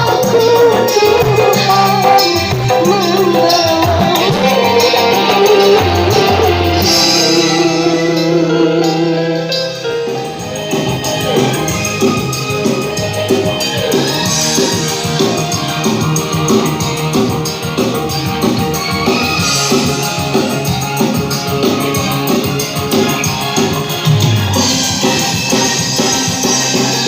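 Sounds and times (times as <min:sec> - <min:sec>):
loud music with steady beat: 0:00.0 - 0:27.0.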